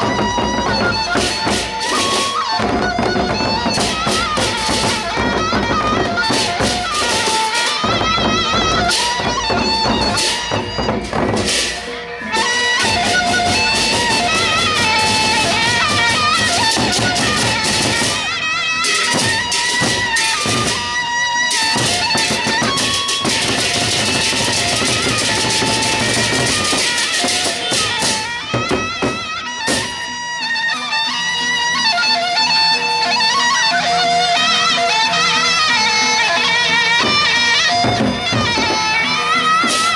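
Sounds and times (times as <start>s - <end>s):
drums struck in a pattern: 0.0s - 30.4s, 35.6s - 39.9s.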